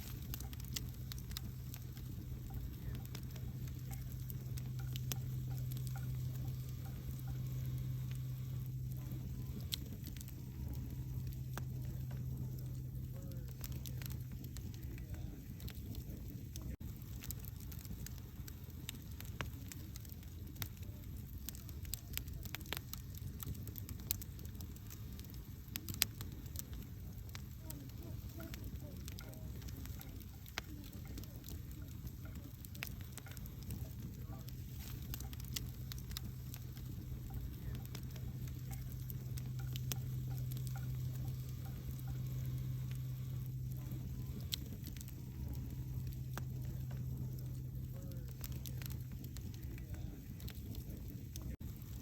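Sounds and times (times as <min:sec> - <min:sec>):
campfire crackling: 0:00.0 - 0:52.0
steady low hum: 0:00.0 - 0:52.0.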